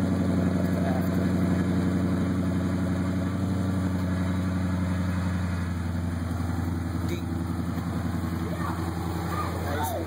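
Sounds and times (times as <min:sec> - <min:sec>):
engine idling with deep exhaust: 0:00.0 - 0:10.0.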